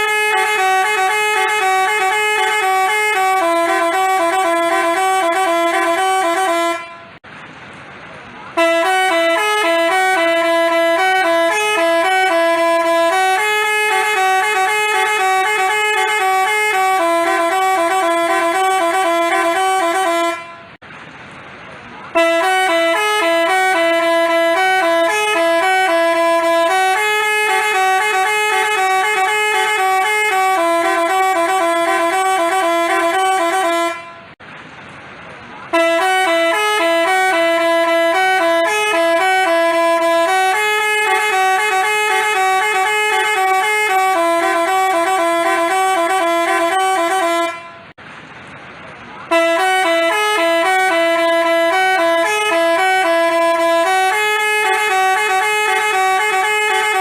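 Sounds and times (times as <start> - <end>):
multi-tone bus horn melody: 0.0 - 7.3, 8.4 - 20.9, 22.0 - 34.4, 35.6 - 48.0, 49.2 - 57.0.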